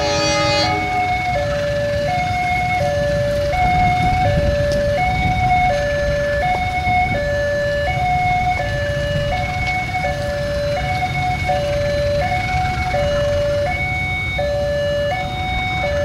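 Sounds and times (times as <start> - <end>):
two-tone crossing alarm: 0.0 - 16.0.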